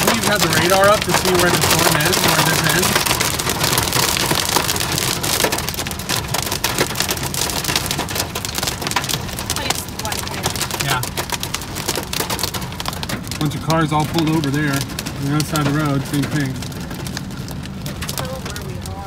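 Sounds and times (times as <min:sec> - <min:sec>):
heavy rain on car windshield: 0:00.0 - 0:19.0.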